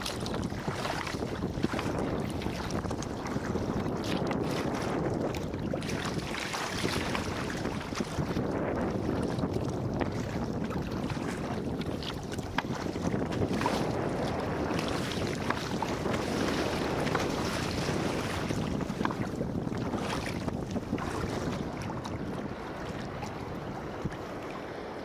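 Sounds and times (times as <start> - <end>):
paddle splashes: 0.0 - 25.0
waves washing against hull: 0.0 - 25.0
wind buffeting microphone: 0.0 - 25.0.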